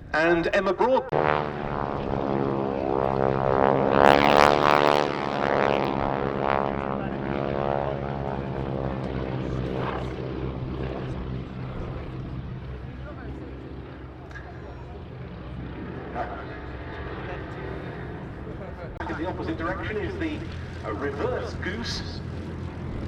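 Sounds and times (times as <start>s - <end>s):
propeller planes flying past: 0.0s - 23.0s.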